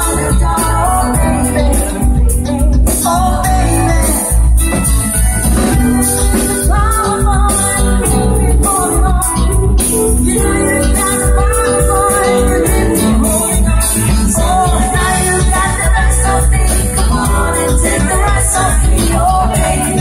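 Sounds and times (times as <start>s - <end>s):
live band playing: 0.0s - 20.0s
strong bass line: 0.0s - 20.0s.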